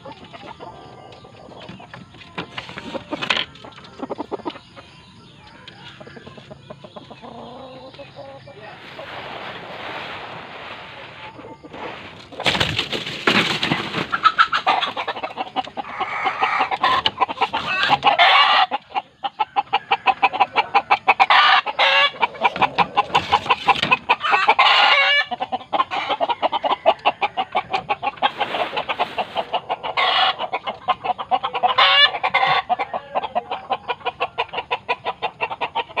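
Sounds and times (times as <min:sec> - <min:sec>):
hen clucking rapidly: 0:00.0 - 0:05.0, 0:05.7 - 0:08.8, 0:13.6 - 0:36.0.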